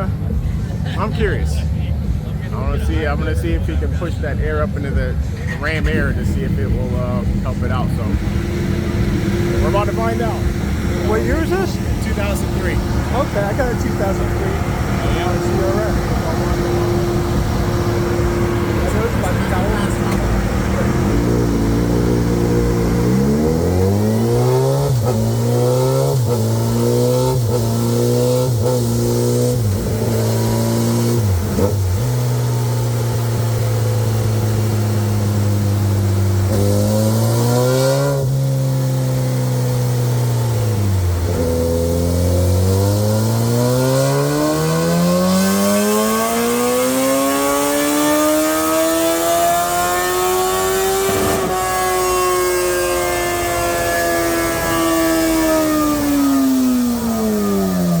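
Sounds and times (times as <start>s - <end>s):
motorcycle engine revving: 1.2s - 58.0s.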